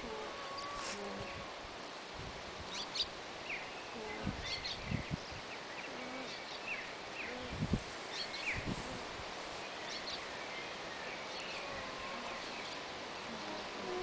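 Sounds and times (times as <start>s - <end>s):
small birds chirping faintly: 0.0s - 14.0s.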